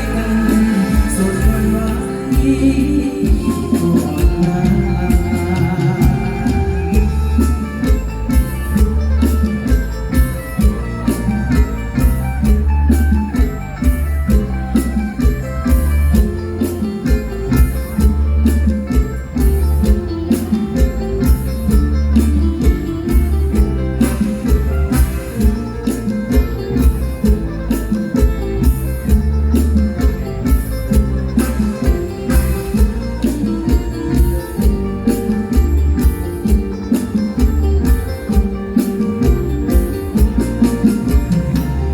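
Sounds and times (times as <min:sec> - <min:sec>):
drum kit beat: 0:00.0 - 0:41.9
plucked string lead: 0:00.0 - 0:41.9.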